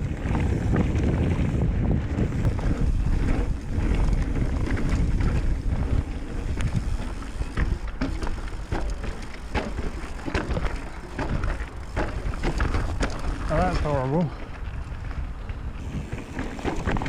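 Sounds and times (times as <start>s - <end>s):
bike rattles and knocks: 0.0s - 17.0s
low tyre rumble: 0.0s - 17.0s
wind buffeting microphone: 0.0s - 17.0s.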